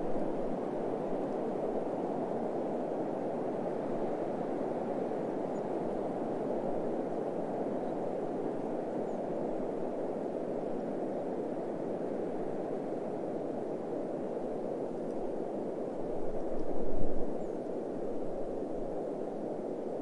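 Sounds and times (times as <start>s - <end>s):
steady wind blowing: 0.0s - 20.0s.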